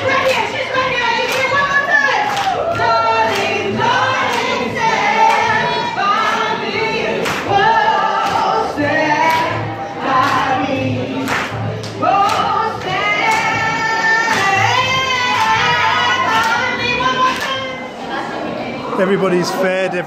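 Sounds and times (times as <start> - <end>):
group singing into microphone: 0.0 - 19.1.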